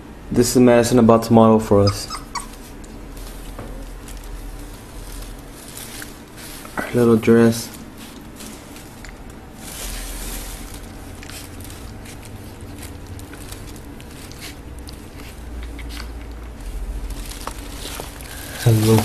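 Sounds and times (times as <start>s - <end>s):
fabric rustling: 2.4s - 19.0s.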